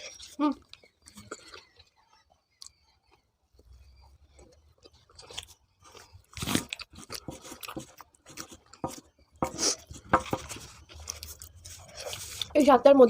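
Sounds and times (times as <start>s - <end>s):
chewing and crunching: 0.0s - 12.6s.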